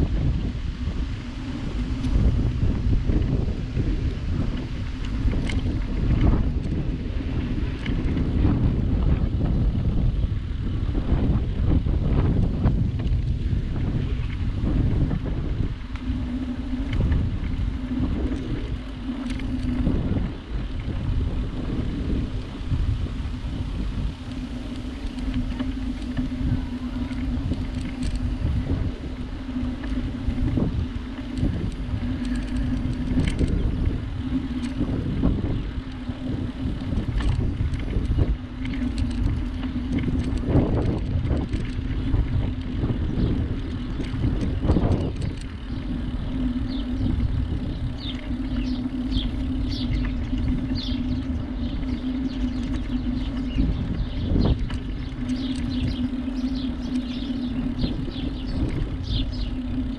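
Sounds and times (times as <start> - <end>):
steady low hum: 0.0 - 59.9
wind buffeting microphone: 0.0 - 59.9.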